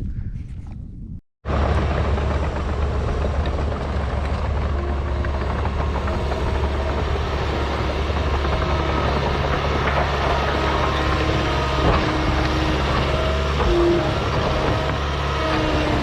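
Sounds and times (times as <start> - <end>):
diesel engine running: 1.4 - 16.0.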